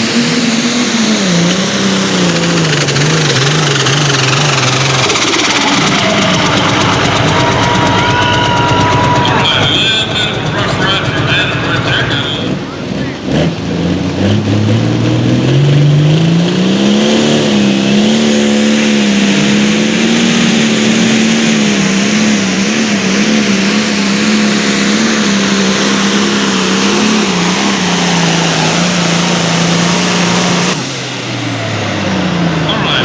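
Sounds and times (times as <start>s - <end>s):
engine at full throttle: 0.0s - 33.0s.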